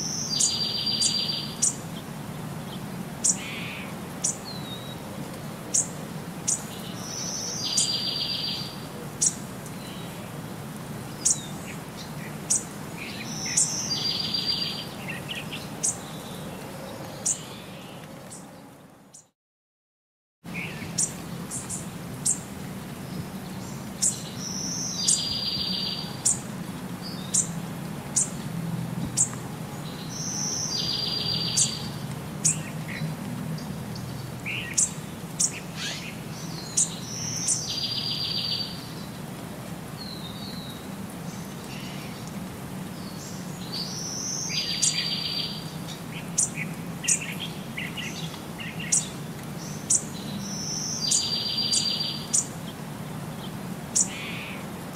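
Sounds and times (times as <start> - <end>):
small birds chirping: 0.0 - 5.0, 5.7 - 10.4, 11.0 - 19.3, 20.5 - 28.4, 29.0 - 54.7.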